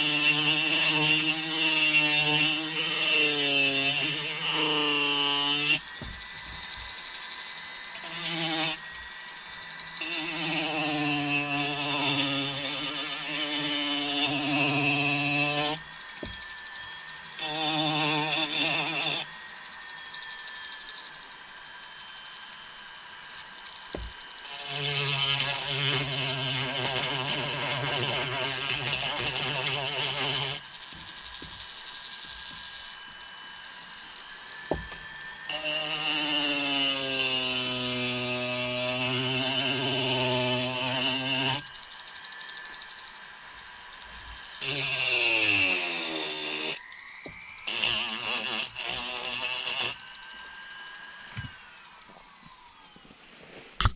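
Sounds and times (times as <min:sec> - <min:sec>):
rotary tool grinding wood: 0:00.0 - 0:53.9.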